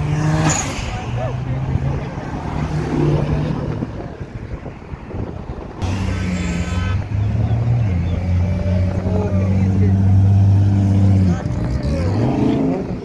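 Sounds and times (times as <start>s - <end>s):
car engines driving past: 0.0s - 13.0s.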